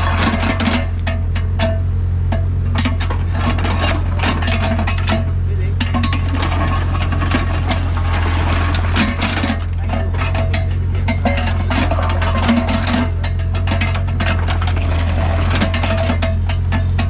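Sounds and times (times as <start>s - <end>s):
diesel engine drone: 0.0s - 17.0s
excavator bucket clanking and scraping: 0.0s - 17.0s.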